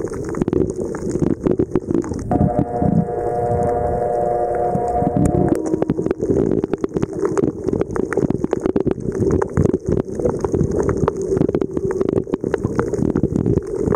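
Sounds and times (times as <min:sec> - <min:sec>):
crackling clicks: 0:00.0 - 0:13.9
underwater rumble of moving water: 0:00.0 - 0:13.9.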